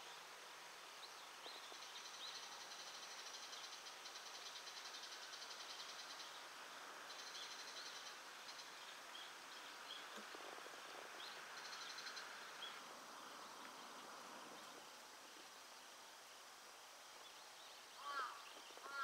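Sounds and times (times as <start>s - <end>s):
soft steady hiss: 0.0s - 19.0s
insects trilling: 1.0s - 19.0s.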